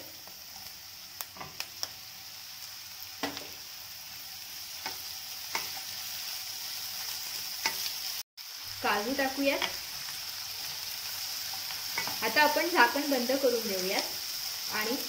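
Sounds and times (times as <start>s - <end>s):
onions and tomatoes sizzling: 0.0s - 15.0s.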